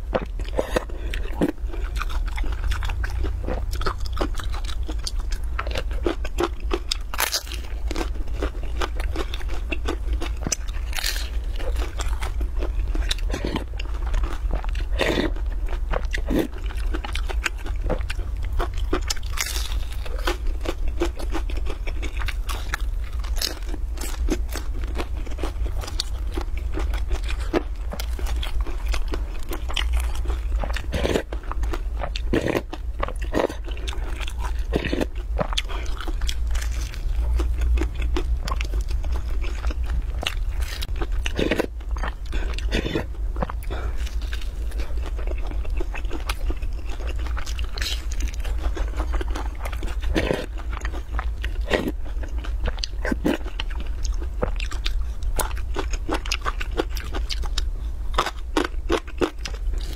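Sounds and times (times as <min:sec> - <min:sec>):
chewing and crunching flatbread: 0:00.0 - 0:59.9
steady low hum: 0:00.0 - 0:59.9.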